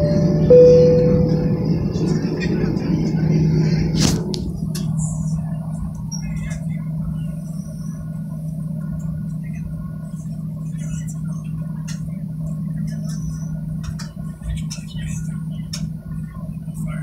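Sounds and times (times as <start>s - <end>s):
jet engine drone in cabin: 0.0s - 17.0s.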